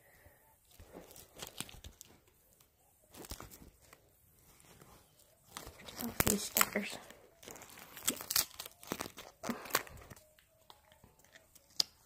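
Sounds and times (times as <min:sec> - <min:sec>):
plastic wrap crinkling: 0:00.7 - 0:12.0.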